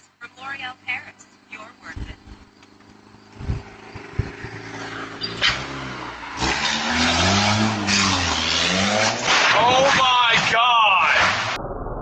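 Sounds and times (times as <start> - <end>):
tyre and road noise: 0.0 - 11.6
car engine revving: 0.6 - 11.6.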